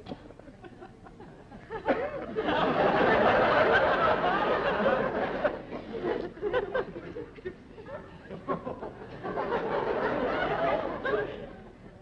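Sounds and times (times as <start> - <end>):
studio audience laughing: 0.2 - 11.8.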